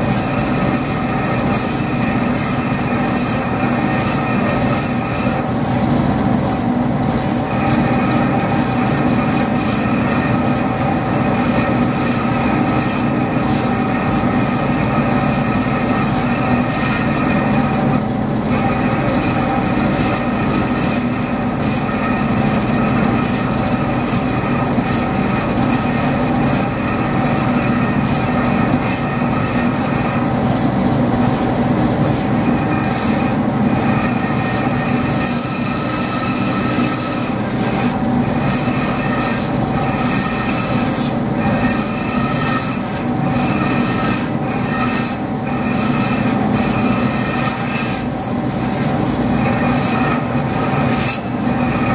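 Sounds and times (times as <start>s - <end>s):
bandsaw blade rasping metal: 0.0s - 51.9s
saw motor humming: 0.0s - 51.9s.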